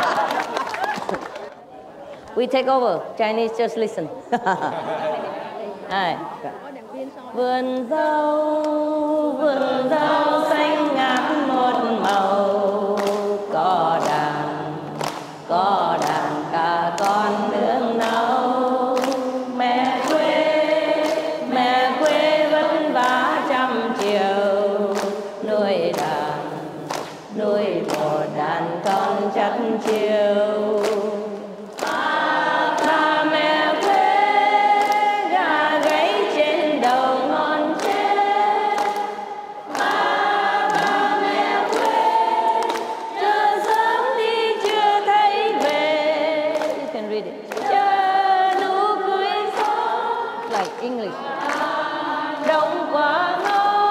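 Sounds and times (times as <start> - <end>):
crowd singing in unison: 7.3 - 53.9.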